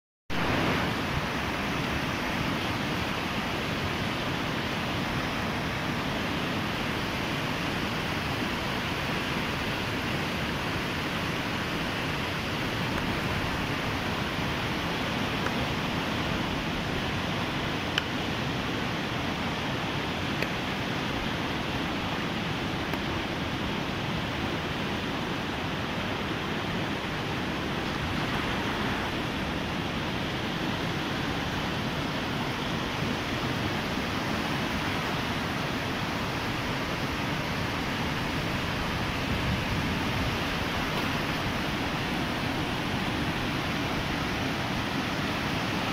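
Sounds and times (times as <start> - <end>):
floodwater rushing over boulders: 0.3 - 45.9.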